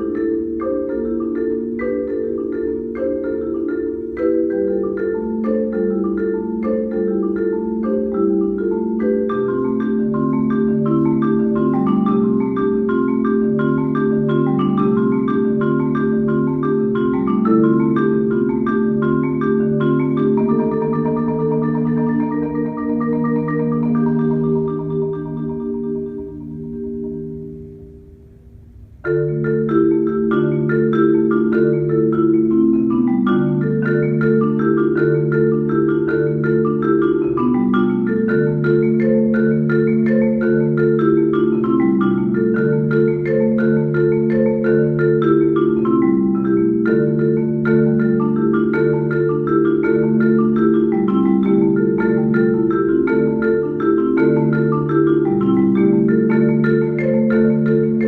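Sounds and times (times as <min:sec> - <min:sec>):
marimba played with mallets: 0:00.0 - 0:58.0.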